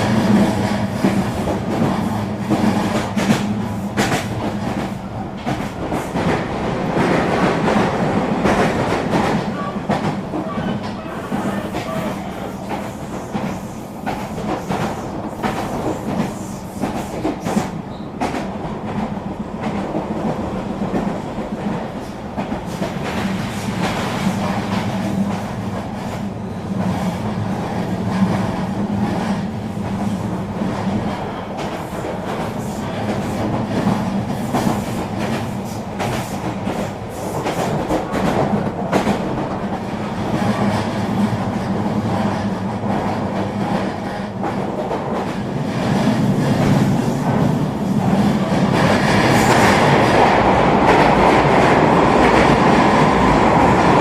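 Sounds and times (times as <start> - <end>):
train rumble and hum: 0.0 - 54.0.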